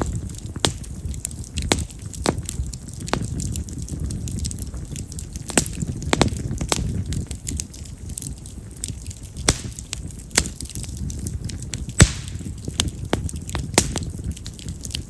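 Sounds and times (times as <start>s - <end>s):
loud wood pops and crackles: 0.0s - 15.0s
low rumble of flame: 0.0s - 15.0s.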